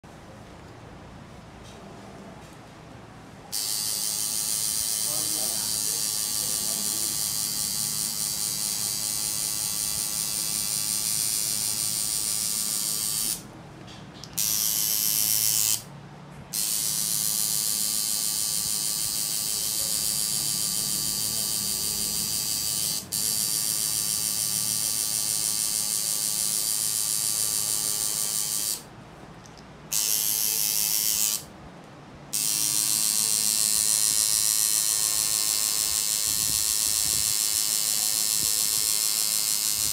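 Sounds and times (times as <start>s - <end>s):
tattoo machine buzzing: 3.5s - 13.5s, 14.2s - 15.9s, 16.5s - 28.9s, 29.9s - 31.5s, 32.3s - 39.9s.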